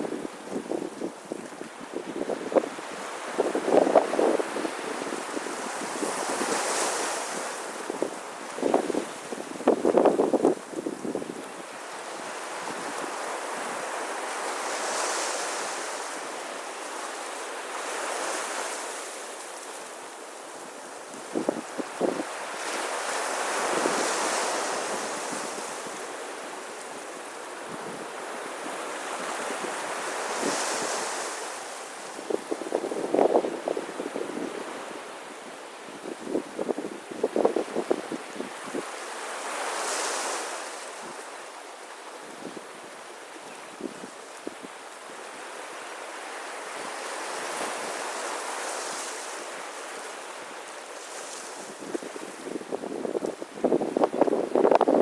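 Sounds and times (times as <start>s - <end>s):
sea waves washing onto beach: 0.0s - 55.0s.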